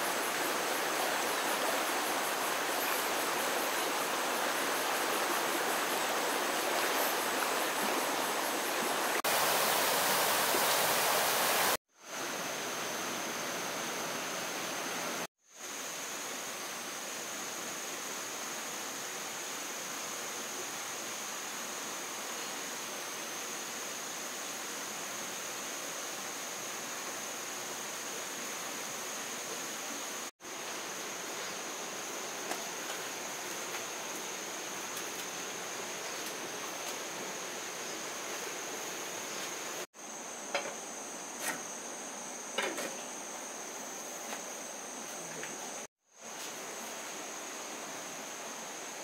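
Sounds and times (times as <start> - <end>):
even hiss: 0.0 - 49.0
insects trilling: 0.0 - 49.0.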